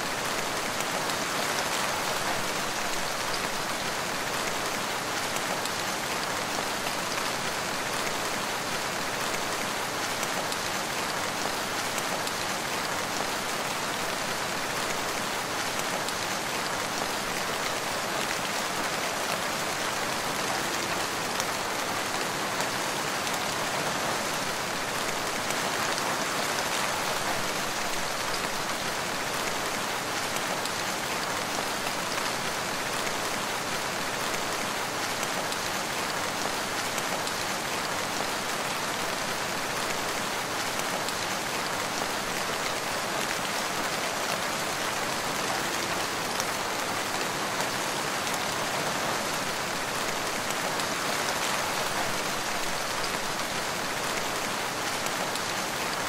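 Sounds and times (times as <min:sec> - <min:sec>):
rain falling in forest: 0:00.0 - 0:56.0.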